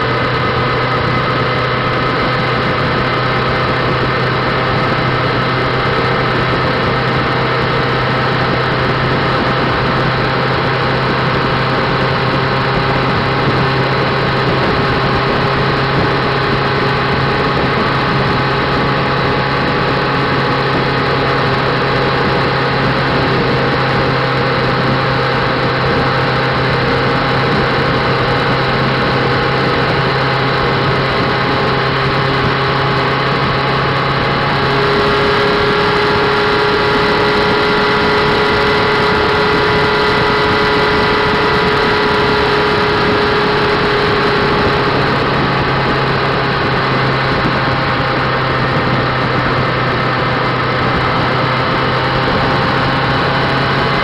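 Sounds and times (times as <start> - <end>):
motorcycle engine running: 0.0 - 54.0
riding wind noise: 0.0 - 54.0.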